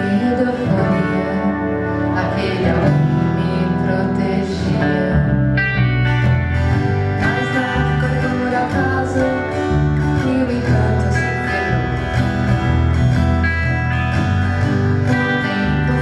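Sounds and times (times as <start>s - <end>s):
guitar: 0.0s - 16.0s
live band playing: 0.0s - 16.0s
low bass line: 0.0s - 16.0s.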